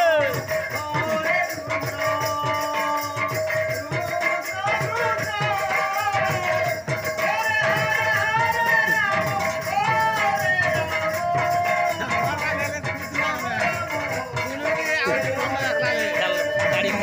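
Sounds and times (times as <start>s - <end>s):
jingling percussion: 0.0s - 17.0s
person singing wavering melody: 0.0s - 17.0s
regular drum beat: 0.0s - 17.0s.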